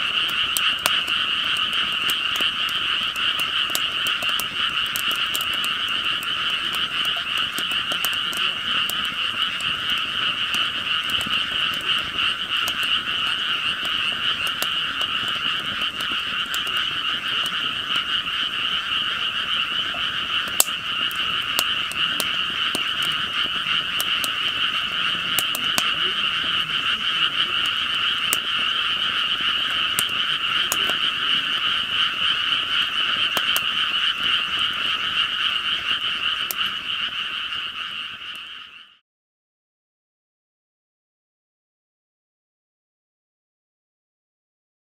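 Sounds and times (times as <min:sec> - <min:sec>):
wood fire crackling: 0:00.0 - 0:38.5
frog chorus: 0:00.0 - 0:39.0.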